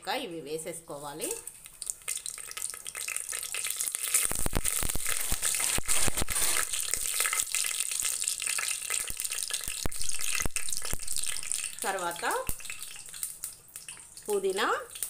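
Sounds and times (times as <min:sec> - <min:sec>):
spices sizzling in hot oil: 0:00.1 - 0:15.0.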